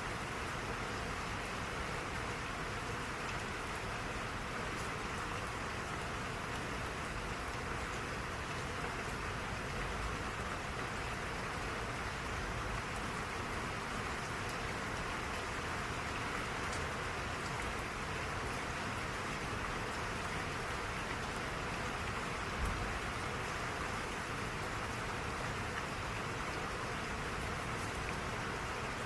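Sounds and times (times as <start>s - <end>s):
steady rainfall: 0.0s - 29.0s.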